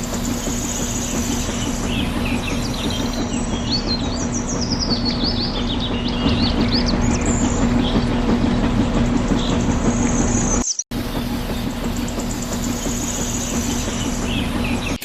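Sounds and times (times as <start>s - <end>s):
birds chirping: 0.0s - 15.0s
low mechanical hum: 0.0s - 15.0s.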